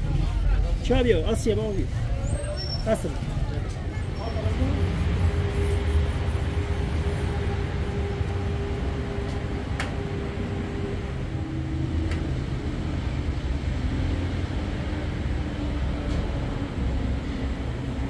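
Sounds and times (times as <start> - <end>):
traffic engine hum: 0.0 - 18.0.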